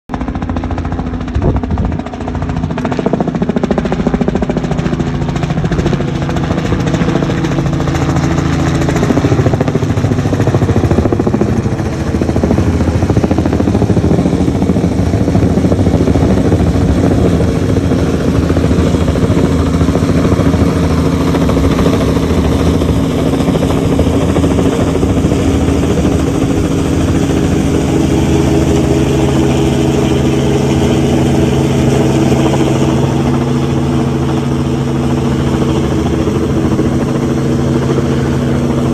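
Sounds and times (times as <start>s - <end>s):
helicopter engine hum: 0.1s - 38.9s
helicopter rotor chopping: 0.1s - 38.9s.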